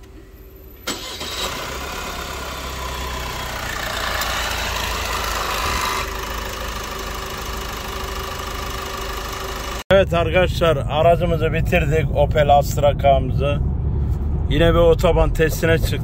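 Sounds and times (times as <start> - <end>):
car engine starting and running: 0.0 - 16.0.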